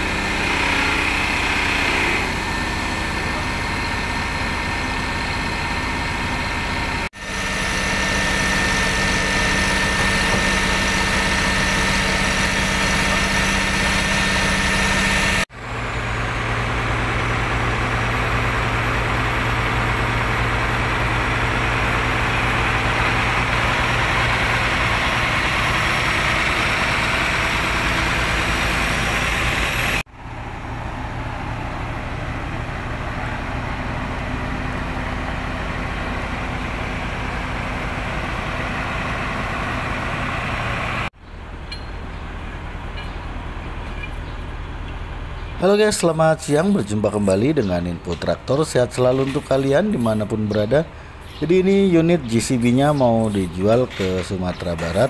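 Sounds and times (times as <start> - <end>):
excavator diesel engine droning: 0.0 - 55.0.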